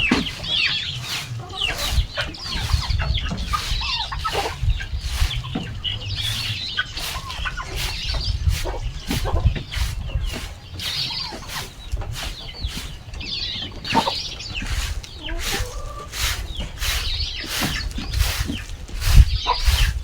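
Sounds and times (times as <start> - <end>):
chickens clucking and cheeping: 0.0 - 20.0
short scraping strokes: 0.0 - 20.0.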